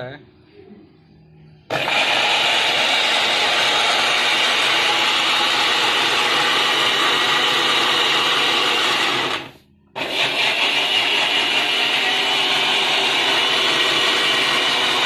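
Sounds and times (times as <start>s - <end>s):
mixer grinder blending: 1.7s - 15.0s.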